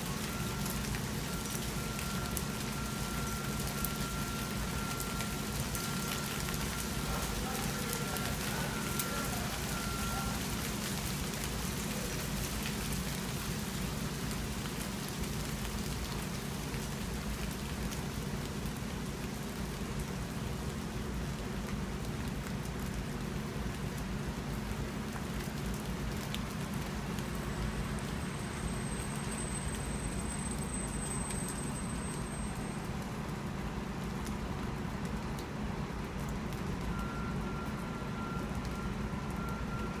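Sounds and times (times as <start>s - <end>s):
hail pattering: 0.0s - 40.0s.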